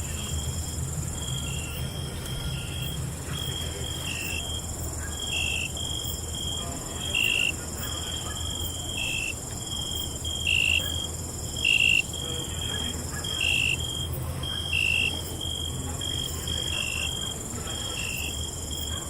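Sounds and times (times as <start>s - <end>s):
high-pitched insect trill: 0.0s - 17.2s
crickets chirping: 0.0s - 19.0s.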